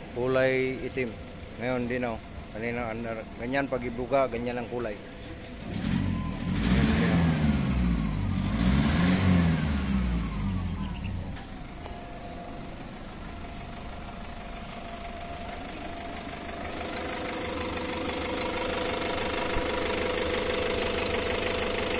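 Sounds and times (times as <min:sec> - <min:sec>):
engine revving and idling: 0:00.0 - 0:21.9.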